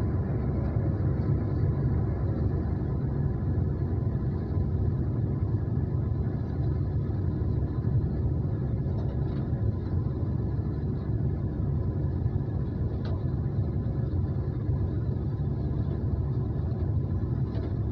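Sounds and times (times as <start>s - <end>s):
diesel engine rumbling: 0.0s - 17.9s.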